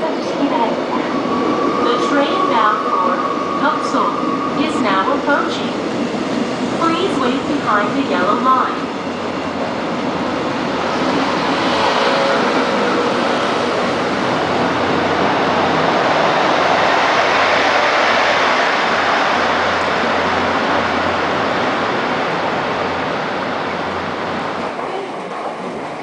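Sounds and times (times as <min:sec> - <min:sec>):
train wheels rushing on rail: 0:00.0 - 0:26.0.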